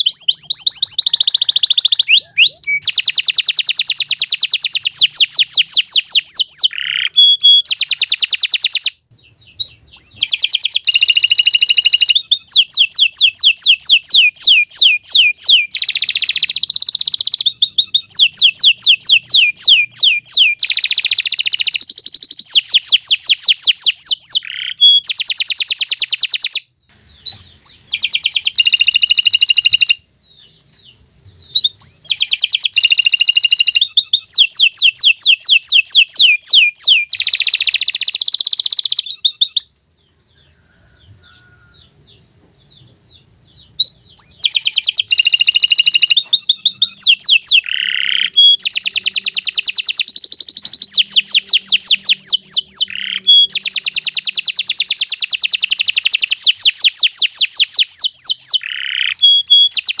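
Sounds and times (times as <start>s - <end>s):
canary singing trilled phrases: 0.0s - 60.0s.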